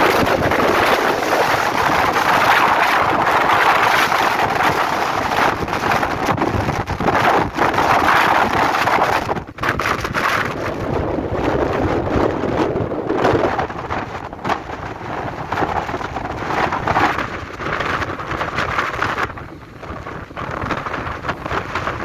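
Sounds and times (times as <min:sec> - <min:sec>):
storm wind gusting: 0:00.0 - 0:22.0
wind pops on microphone: 0:00.0 - 0:22.0.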